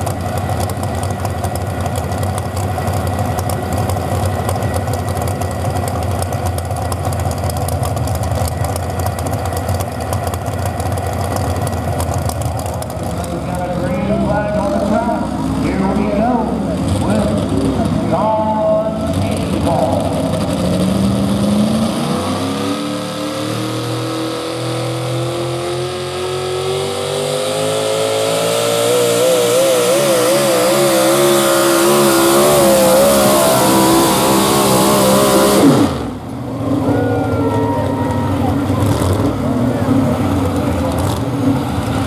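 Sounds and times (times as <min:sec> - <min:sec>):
truck engine at full throttle: 0:00.0 - 0:42.0.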